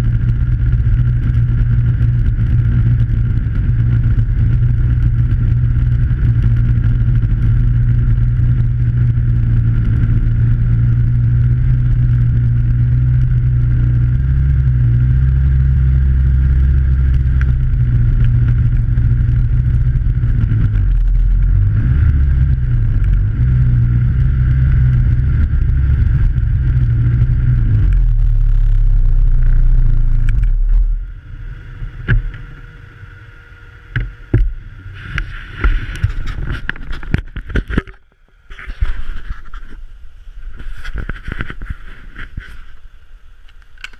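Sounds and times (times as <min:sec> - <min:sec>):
snowmobile engine running: 0:00.0 - 0:37.8.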